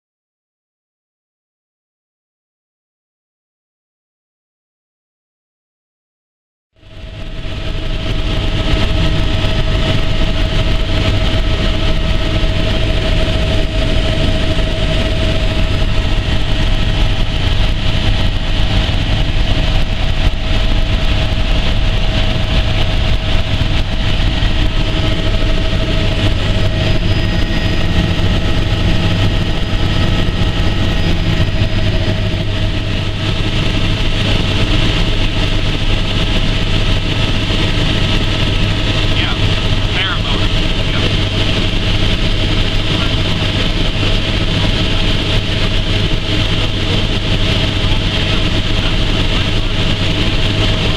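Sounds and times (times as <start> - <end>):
helicopter rotor and engine drone: 6.8 - 50.9.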